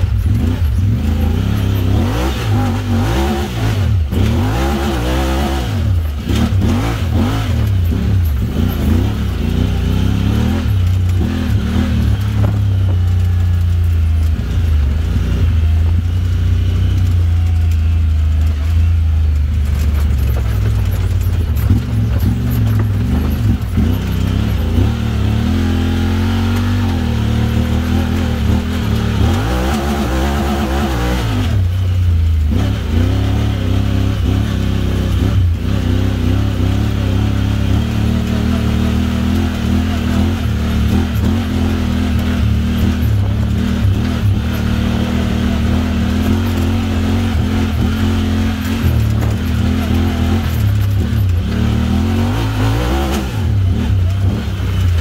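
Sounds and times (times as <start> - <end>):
engine revving under way: 0.0 - 17.7, 21.5 - 55.0.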